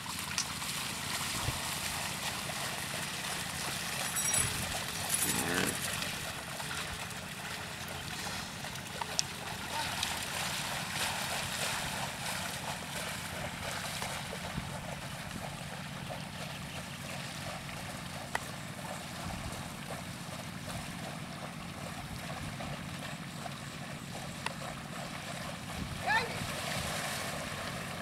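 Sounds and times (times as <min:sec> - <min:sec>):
water and mud sloshing: 0:00.0 - 0:28.0.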